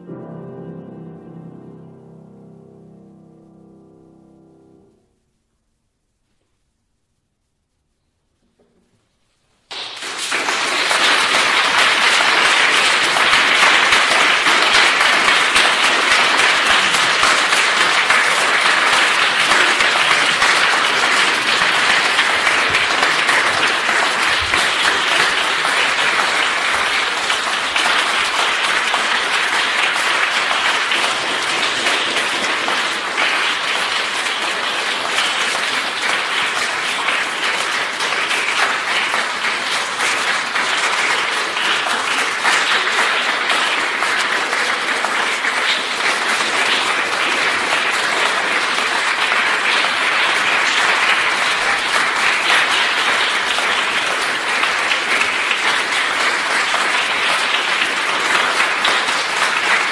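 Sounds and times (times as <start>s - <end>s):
audience applauding: 9.7s - 59.9s.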